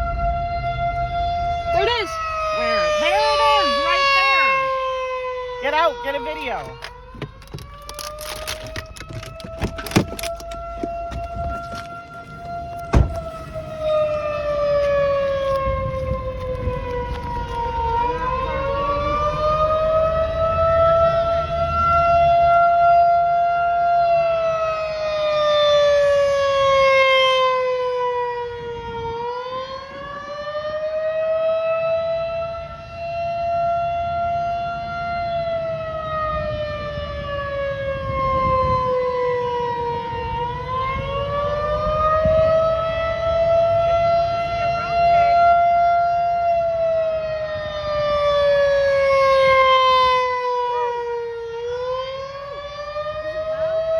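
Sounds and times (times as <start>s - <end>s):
rotating warning siren: 0.0s - 53.9s.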